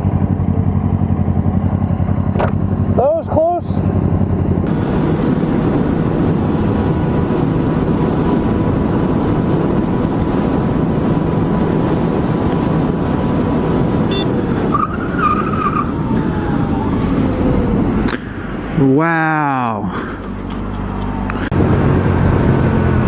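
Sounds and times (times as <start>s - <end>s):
motorcycle wind and road noise: 0.0s - 23.0s.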